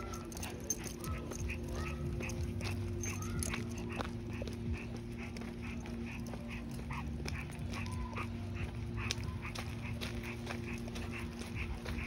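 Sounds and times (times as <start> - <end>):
dog panting: 0.0 - 12.0
dog whining: 0.0 - 12.0.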